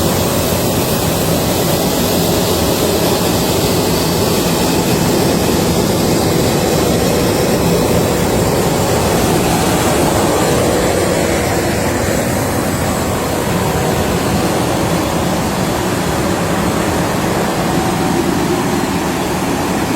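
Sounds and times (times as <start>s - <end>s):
harvester engine and suction fan: 0.0s - 19.9s.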